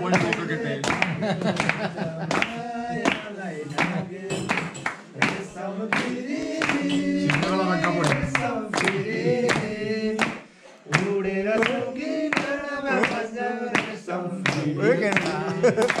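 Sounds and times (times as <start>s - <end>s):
hands clapping in rhythm: 0.0s - 16.0s
men singing together: 0.0s - 16.0s.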